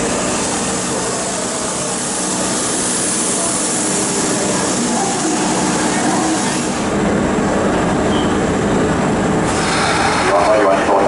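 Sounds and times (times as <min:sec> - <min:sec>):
electric train rushing past: 0:00.0 - 0:11.0.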